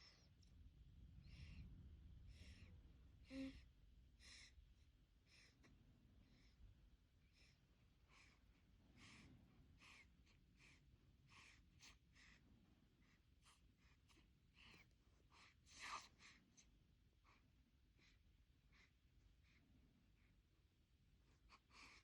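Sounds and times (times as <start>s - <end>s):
baby breathing softly: 0.0s - 20.5s, 21.2s - 22.0s.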